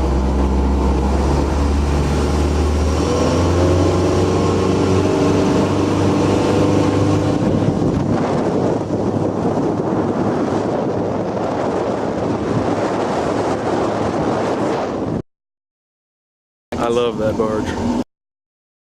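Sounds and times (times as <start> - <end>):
motorboat engine running: 0.0 - 15.2, 16.8 - 18.0
water noise: 0.0 - 15.2
wind: 0.0 - 15.2, 16.7 - 18.0.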